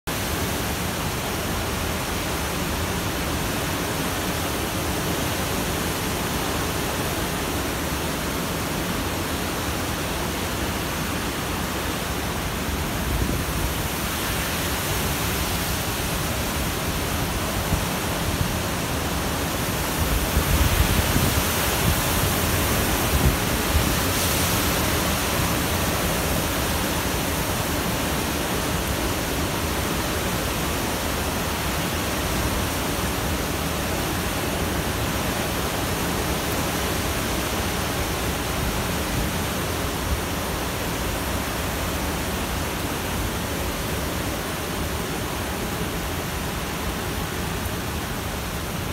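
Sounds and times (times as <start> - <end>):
heavy rain: 0.1 - 48.9
strong wind: 0.1 - 48.9.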